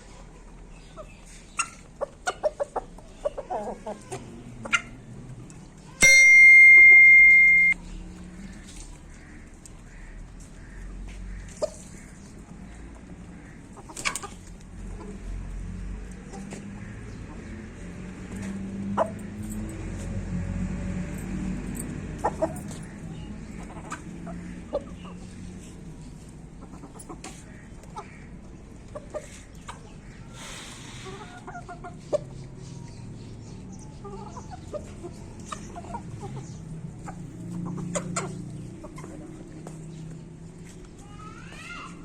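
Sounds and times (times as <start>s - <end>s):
chickens clucking: 0.0s - 20.3s, 21.4s - 41.1s.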